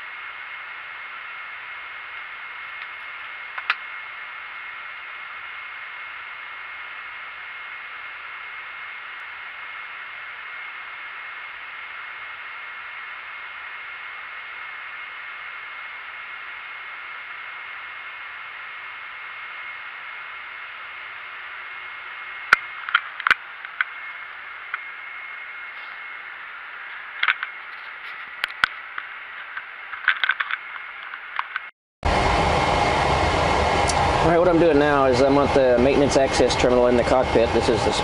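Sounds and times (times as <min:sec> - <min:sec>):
faint high whine: 0:00.0 - 0:38.0.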